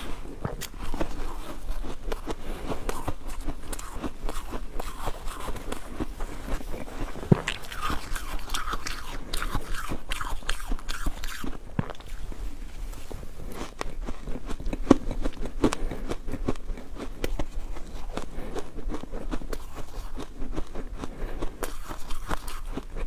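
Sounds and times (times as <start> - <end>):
ice crunching being chewed: 0.0 - 23.0.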